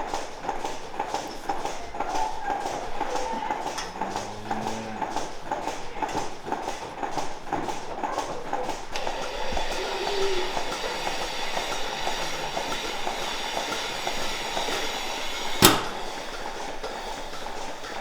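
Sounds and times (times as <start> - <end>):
machine clattering rhythmically: 0.0 - 18.0.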